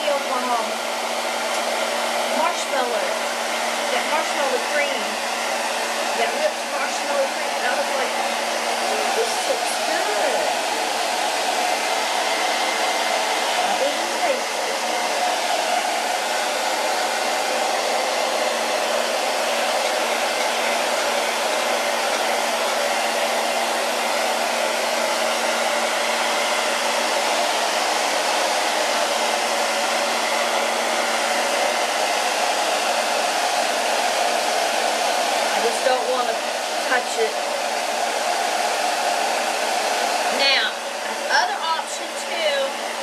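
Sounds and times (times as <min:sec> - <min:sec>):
blow dryer running: 0:00.0 - 0:43.0.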